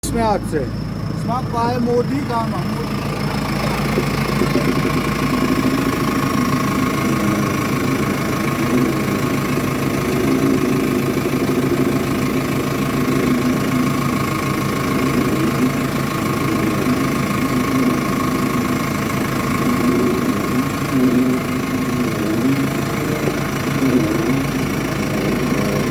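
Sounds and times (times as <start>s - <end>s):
thin steady whine: 0.0s - 25.9s
vehicle engine idling: 0.0s - 25.9s.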